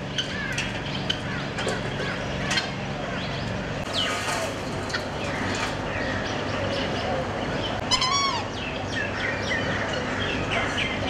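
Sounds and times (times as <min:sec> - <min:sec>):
birds chirping and calling: 0:00.0 - 0:11.0.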